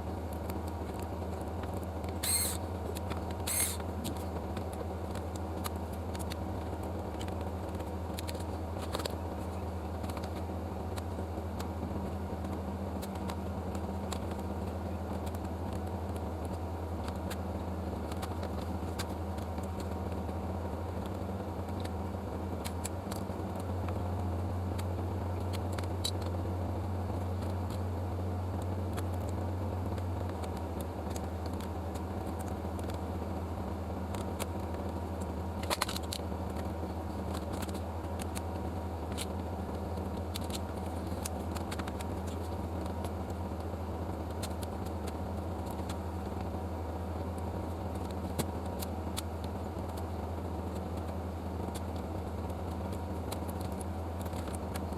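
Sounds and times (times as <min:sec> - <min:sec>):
low machine hum: 0:00.0 - 0:54.9
small clicks: 0:00.2 - 0:27.9, 0:28.5 - 0:33.3, 0:34.0 - 0:54.9.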